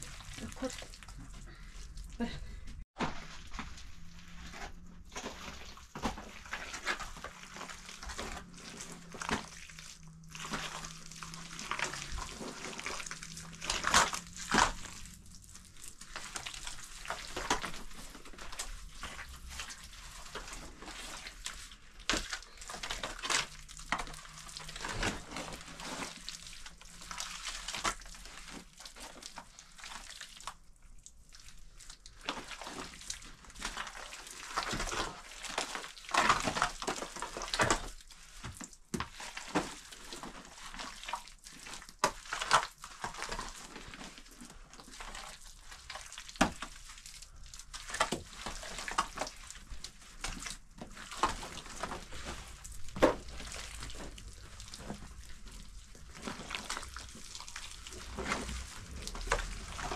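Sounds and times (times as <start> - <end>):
wet plaster squelching by hand: 0.0 - 59.9.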